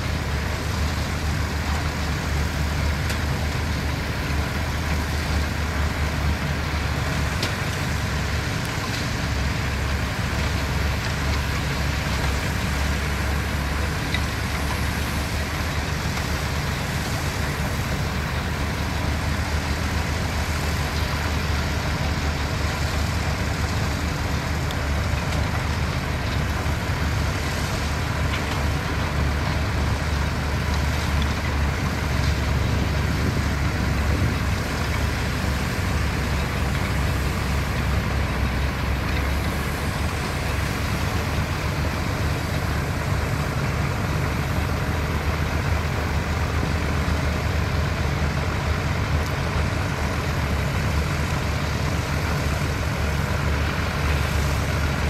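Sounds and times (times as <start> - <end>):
diesel machinery engines droning: 0.0 - 55.0.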